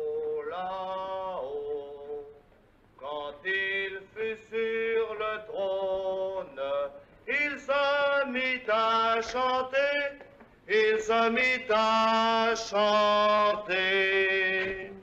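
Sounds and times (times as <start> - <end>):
man singing unaccompanied: 0.0 - 2.4, 3.0 - 15.0.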